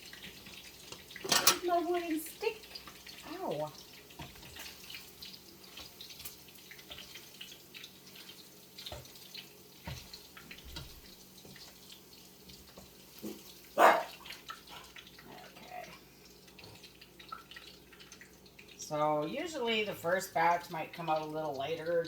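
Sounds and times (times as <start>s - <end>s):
chicken frying in hot oil: 0.0s - 22.0s.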